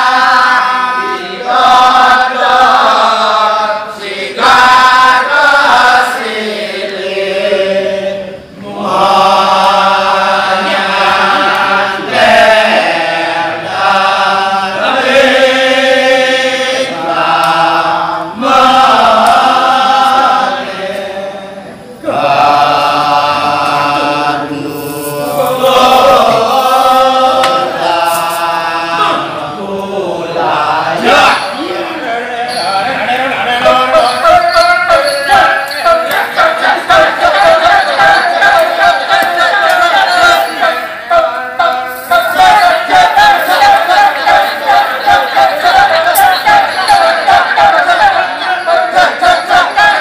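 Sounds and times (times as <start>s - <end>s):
group chanting: 0.0s - 50.0s.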